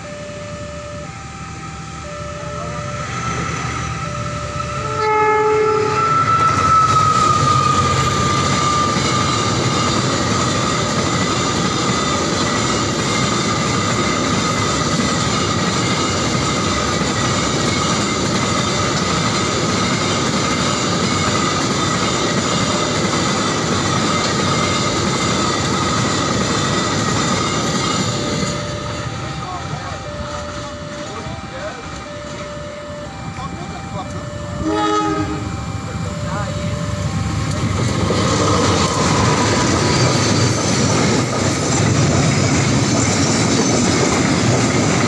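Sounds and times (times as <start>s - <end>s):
train wheels rumbling on rail: 0.0s - 45.0s
high wheel squeal: 2.6s - 45.0s.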